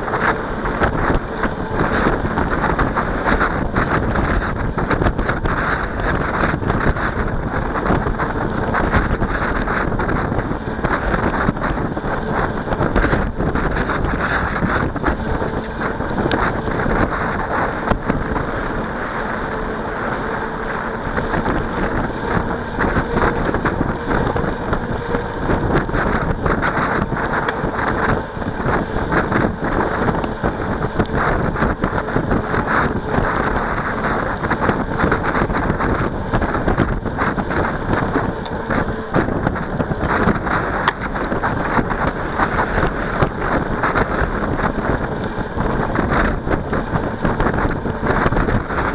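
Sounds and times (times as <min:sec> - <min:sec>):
faint steady hum: 0:00.0 - 0:48.9
wind buffeting microphone: 0:00.0 - 0:48.9.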